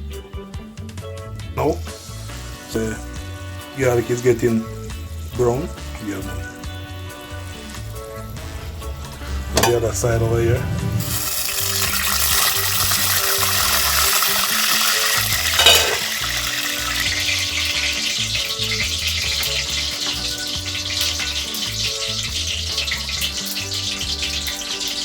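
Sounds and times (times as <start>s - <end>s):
background music with low beat: 0.0s - 25.0s
chicken sizzling in hot oil: 0.9s - 9.9s, 10.7s - 25.0s.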